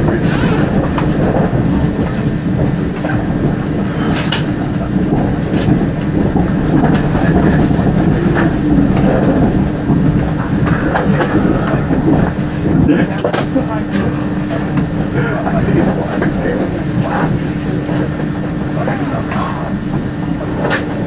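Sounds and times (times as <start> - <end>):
steady hum: 0.0 - 21.0
train wheels rumbling on rail: 0.0 - 21.0.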